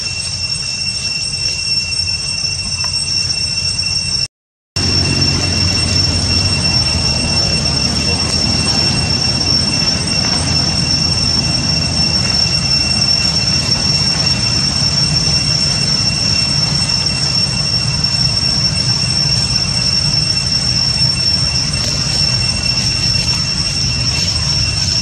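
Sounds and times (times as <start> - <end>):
cicadas droning: 0.0 - 25.0
low rumble: 4.8 - 25.0.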